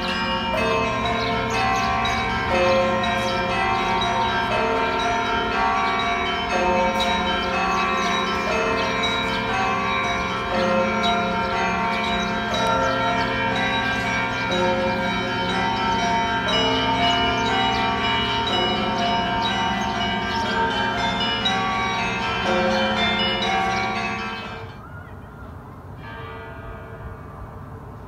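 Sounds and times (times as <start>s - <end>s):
church bells ringing a chime: 0.0s - 28.0s.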